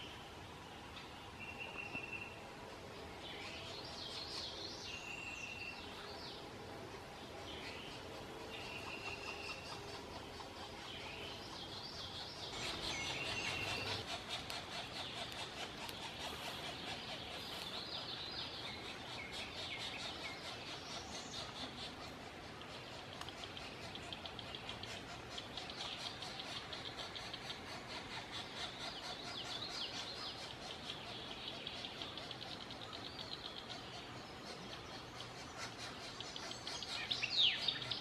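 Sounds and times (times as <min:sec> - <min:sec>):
fast dense bird chatter: 0:02.3 - 0:38.0
birds singing whistled notes: 0:03.0 - 0:06.5, 0:07.2 - 0:38.0.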